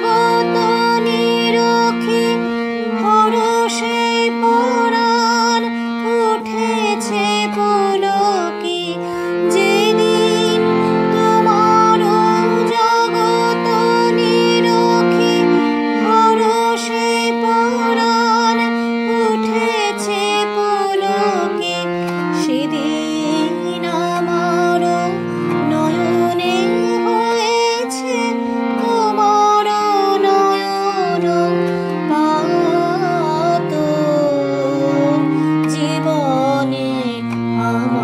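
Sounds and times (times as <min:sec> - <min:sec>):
devotional song melody: 0:00.0 - 0:38.0.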